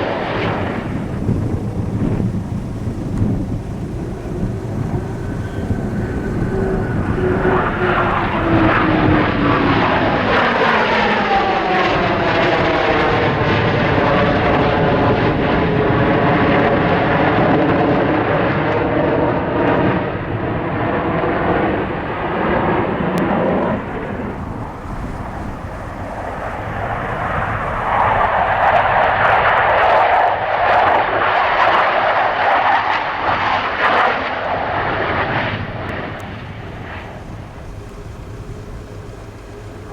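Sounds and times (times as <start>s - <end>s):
airplane flying past: 0.0s - 39.9s.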